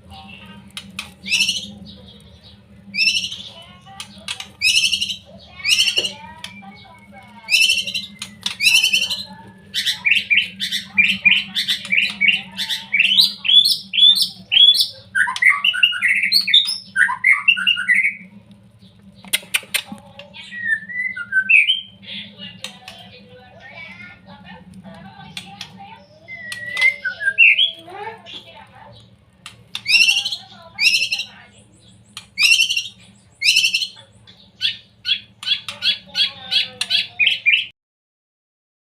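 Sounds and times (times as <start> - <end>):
steady low hum: 0.0 - 37.5
bird giving harsh calls: 0.1 - 18.3, 19.2 - 24.3, 25.2 - 37.7.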